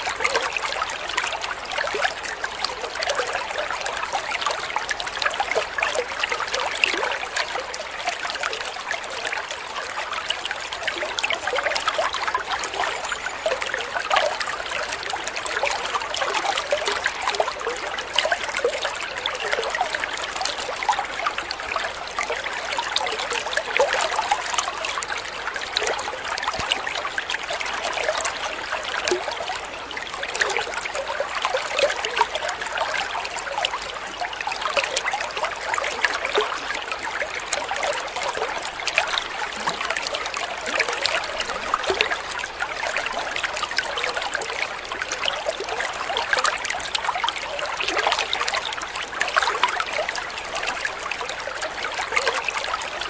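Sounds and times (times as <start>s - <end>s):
stream babbling over stones: 0.0s - 53.0s.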